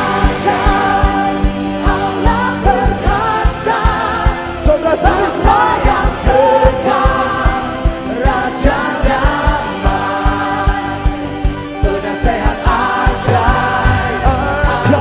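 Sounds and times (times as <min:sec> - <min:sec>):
worship song with band and singing: 0:00.0 - 0:15.0.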